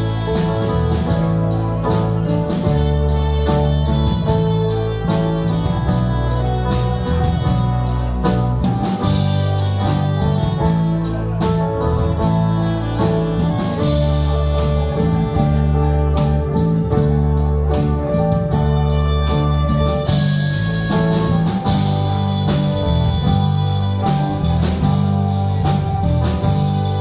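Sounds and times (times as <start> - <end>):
band playing instrumental music: 0.0 - 27.0.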